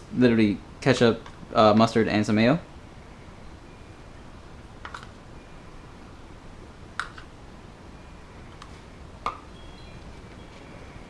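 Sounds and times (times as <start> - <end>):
faint room noise: 0.0 - 11.0.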